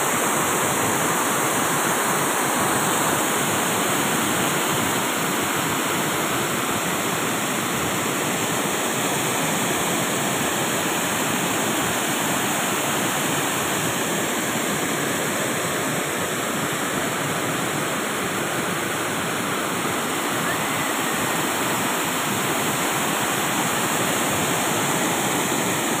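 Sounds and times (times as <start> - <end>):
water rushing over a weir: 0.0 - 26.0.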